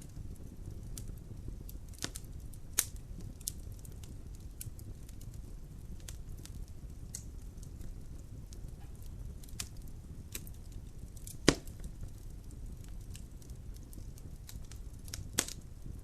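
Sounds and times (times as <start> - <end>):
loud pop from fire: 0.0 - 5.3, 6.0 - 16.0
low steady rumble: 0.0 - 16.0
wood logs crackling in fireplace: 0.0 - 16.0.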